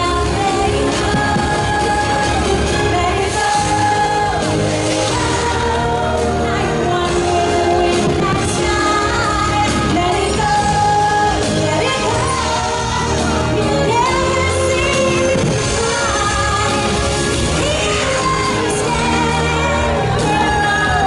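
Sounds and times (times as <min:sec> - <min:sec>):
orchestral pop music with vocals: 0:00.0 - 0:21.0.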